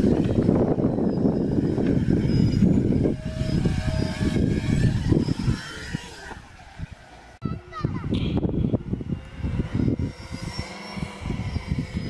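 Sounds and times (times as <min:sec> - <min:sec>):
model plane motors and propellers: 0:00.0 - 0:12.0.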